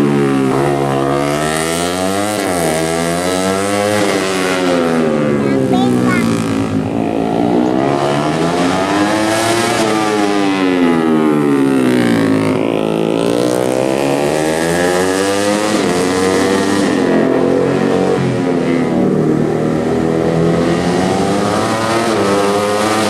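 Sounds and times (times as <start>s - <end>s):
racing motorcycle engines revving: 0.0s - 23.0s.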